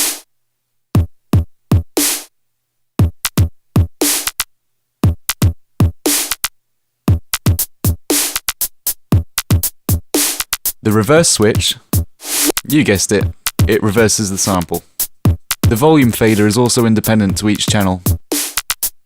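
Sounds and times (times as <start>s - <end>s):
drum machine beat: 0.0s - 0.2s, 1.0s - 2.3s, 3.0s - 6.5s, 7.1s - 19.0s.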